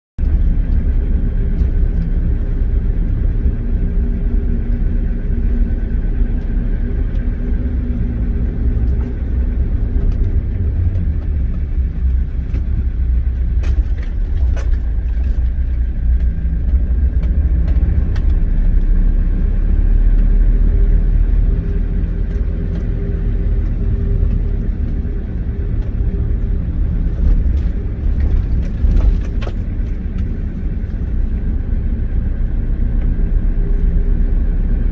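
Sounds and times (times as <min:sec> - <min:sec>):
truck engine rumbling: 0:00.2 - 0:34.9.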